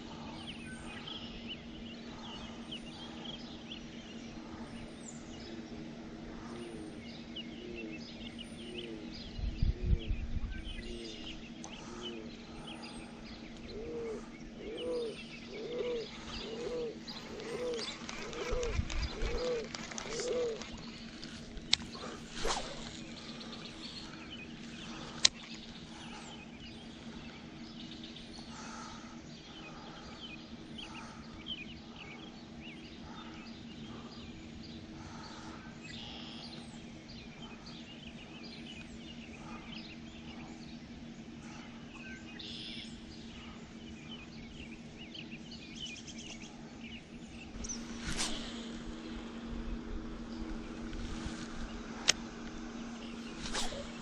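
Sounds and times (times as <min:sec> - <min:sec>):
low hum: 0:00.0 - 0:54.0
small birds chirping: 0:00.0 - 0:54.0.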